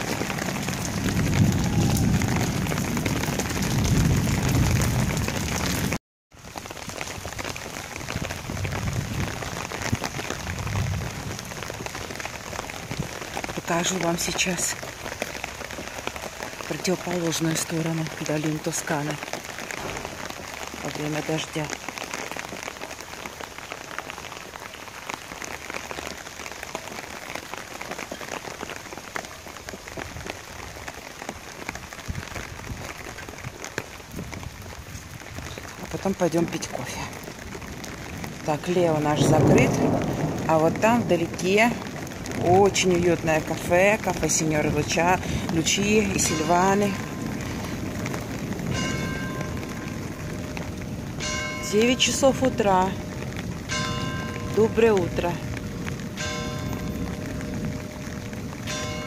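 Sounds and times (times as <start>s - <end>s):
heavy rain on stone paving: 0.0s - 59.0s
raindrops ticking sharply: 0.0s - 59.0s.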